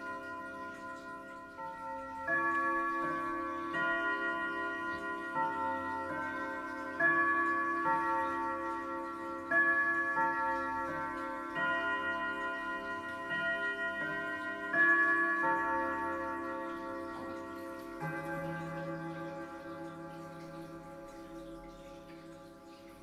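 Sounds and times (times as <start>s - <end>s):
pendulum ticking: 0.0s - 23.0s
wall clock chiming melody: 0.0s - 23.0s.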